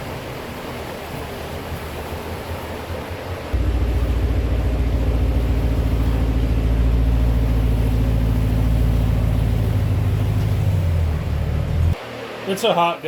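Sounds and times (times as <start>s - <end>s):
truck engine idling: 0.2s - 12.0s.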